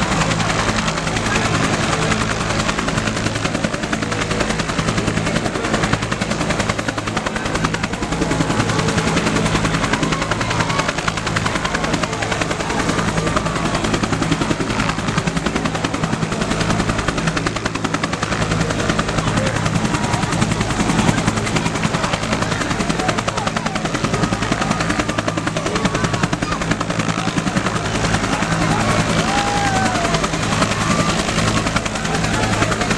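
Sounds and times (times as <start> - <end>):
helicopter rotor chopping: 0.0 - 32.9.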